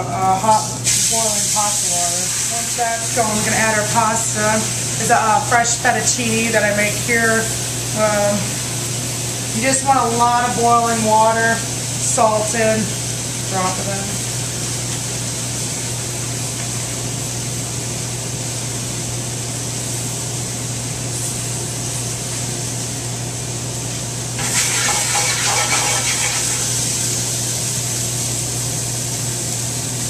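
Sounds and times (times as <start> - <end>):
kitchen ventilation rushing hum: 0.0 - 30.0
vegetables sizzling in a pan: 0.2 - 30.0.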